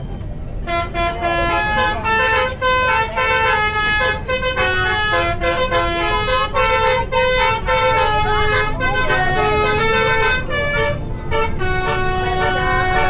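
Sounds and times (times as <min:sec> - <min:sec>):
bus engine rumble: 0:00.0 - 0:13.0
bus horn playing a tune: 0:00.6 - 0:13.0.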